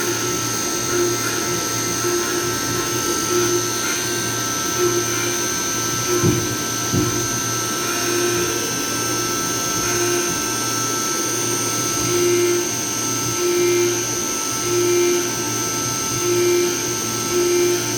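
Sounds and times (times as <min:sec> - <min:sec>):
milling machine spindle whine: 0:00.0 - 0:17.9.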